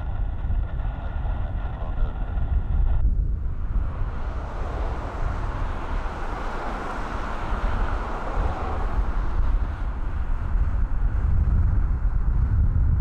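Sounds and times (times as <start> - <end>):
distant jet engine rumble: 0.0 - 13.0
wind buffeting microphone: 0.0 - 13.0.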